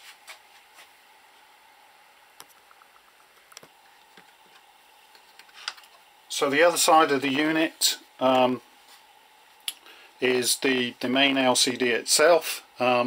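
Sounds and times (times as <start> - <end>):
room hiss: 0.0 - 13.0.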